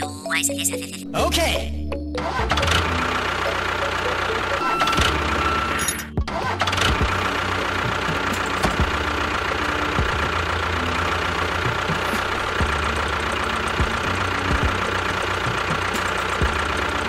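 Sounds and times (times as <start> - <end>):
motor running with rattle: 2.4 - 17.0
motor whine: 2.4 - 17.0.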